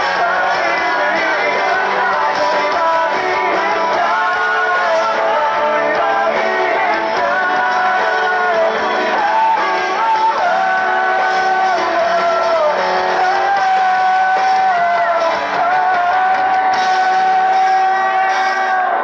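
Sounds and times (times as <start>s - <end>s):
live rock band playing: 0.0s - 19.0s
person singing long notes: 0.0s - 19.0s.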